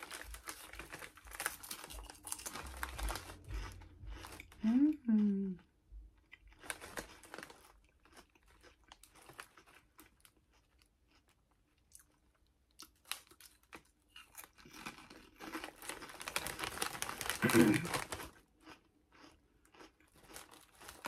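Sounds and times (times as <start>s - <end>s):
crunching potato chips: 0.0s - 4.8s, 6.2s - 21.0s.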